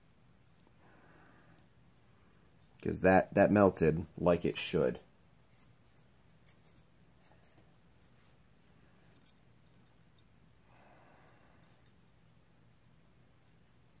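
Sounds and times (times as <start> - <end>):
faint soft hiss: 0.0 - 14.0.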